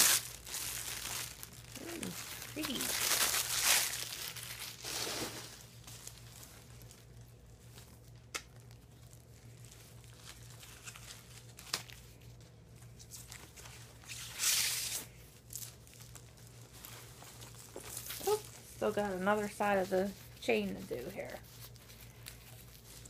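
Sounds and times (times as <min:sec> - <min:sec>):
plastic wrapping crinkling: 0:00.0 - 0:23.0.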